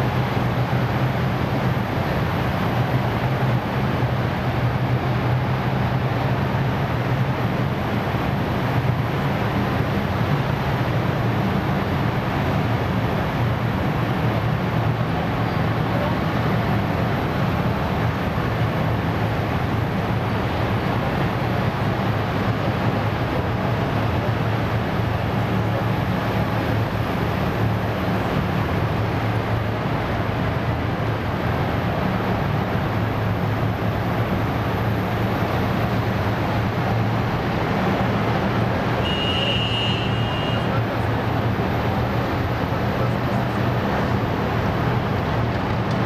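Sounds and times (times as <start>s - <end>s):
armoured vehicle engines droning: 0.0s - 46.0s.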